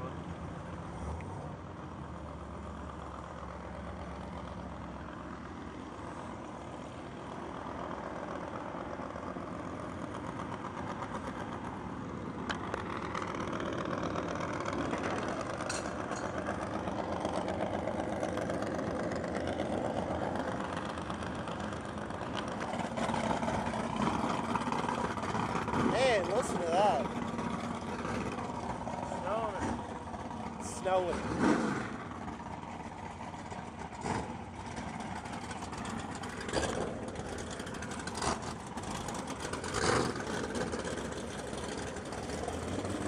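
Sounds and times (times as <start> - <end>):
car engine idling: 1.6 - 43.0.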